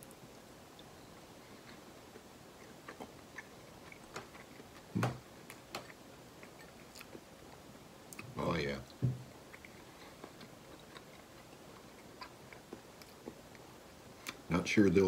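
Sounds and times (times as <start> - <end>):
quiet chewing: 0.0 - 14.5.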